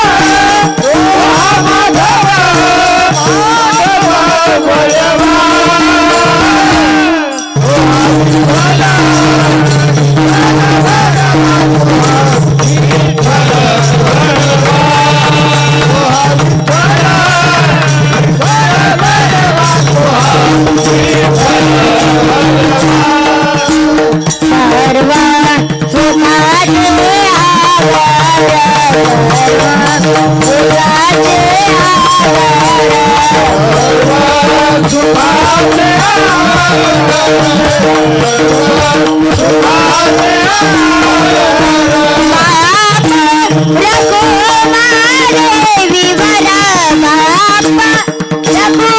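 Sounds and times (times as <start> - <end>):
rhythmic percussion: 0.0 - 48.9.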